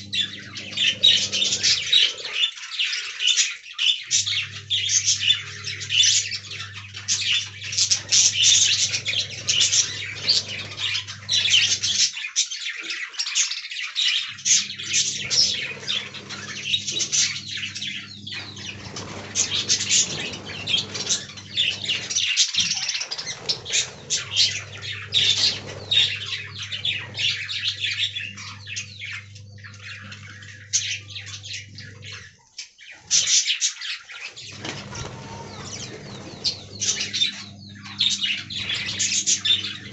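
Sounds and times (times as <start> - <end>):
steady low hum: 0.0 - 2.5, 4.1 - 12.1, 14.3 - 32.4, 34.4 - 39.9
budgerigars chattering and chirping: 0.0 - 39.9.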